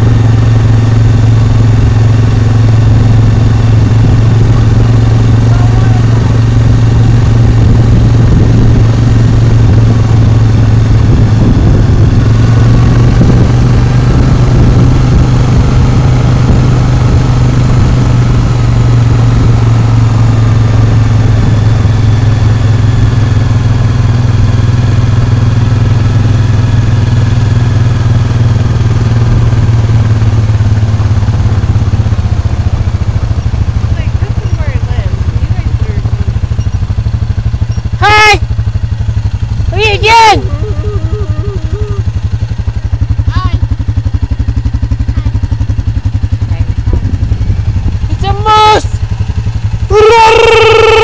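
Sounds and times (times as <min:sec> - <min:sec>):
vehicle engine droning: 0:00.0 - 0:51.0.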